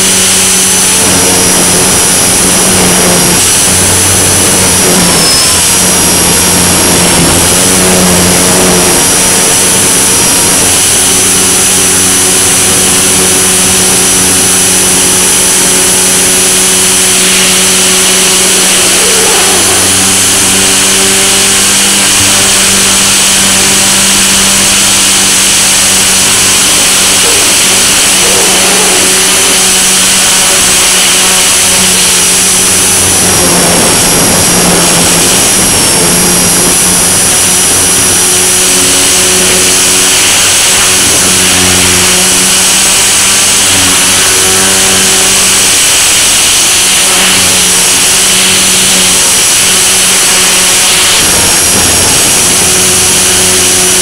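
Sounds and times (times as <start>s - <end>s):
electric motor high-pitched whine: 0.0s - 54.0s
rotor hum: 0.0s - 54.0s.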